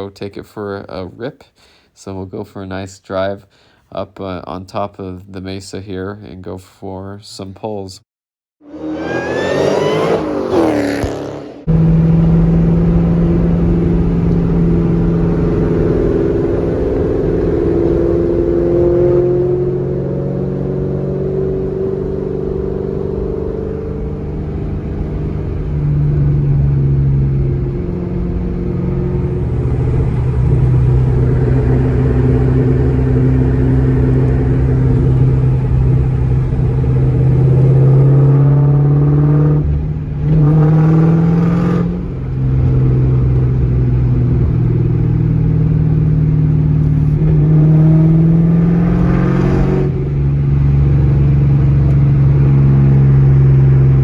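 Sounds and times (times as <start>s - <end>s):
car engine accelerating: 8.6s - 54.0s
supercharger whining: 8.6s - 54.0s.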